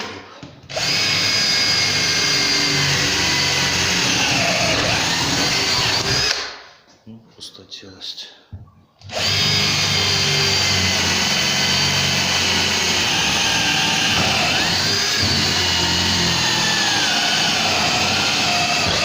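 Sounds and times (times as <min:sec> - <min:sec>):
electric drill boring into wood: 0:00.0 - 0:06.4, 0:09.0 - 0:19.0.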